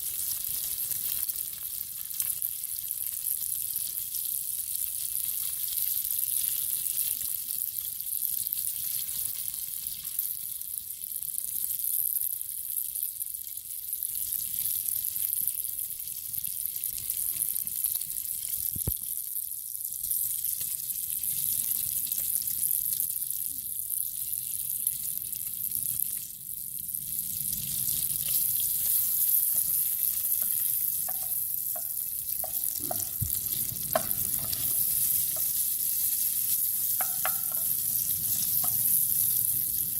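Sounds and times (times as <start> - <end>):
food sizzling in a hot pan: 0.0 - 39.9.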